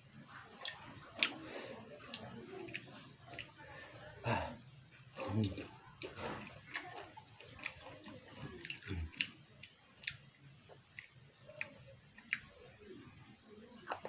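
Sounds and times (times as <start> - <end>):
chewing with wet mouth sounds: 0.1 - 14.0.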